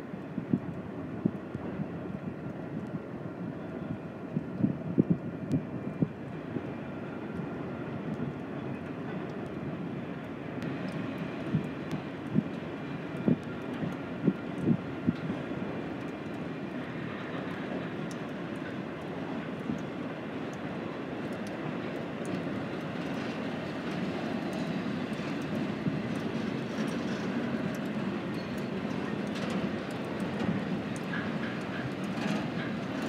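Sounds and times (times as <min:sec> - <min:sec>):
freight train wheels rumbling: 0:06.3 - 0:33.0.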